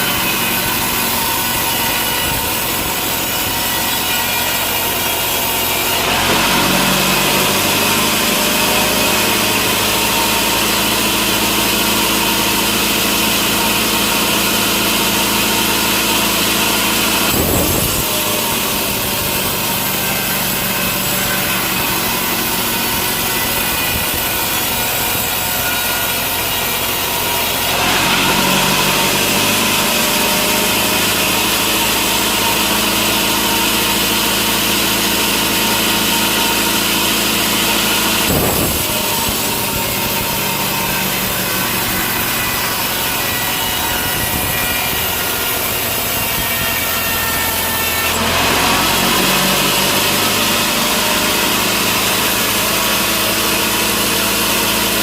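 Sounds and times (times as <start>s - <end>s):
saw cutting through wood: 0.0s - 55.0s.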